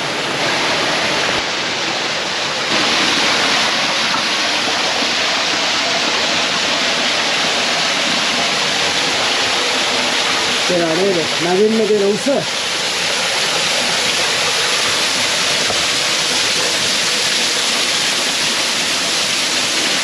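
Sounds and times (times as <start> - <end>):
waterfall water rushing: 0.0 - 20.0.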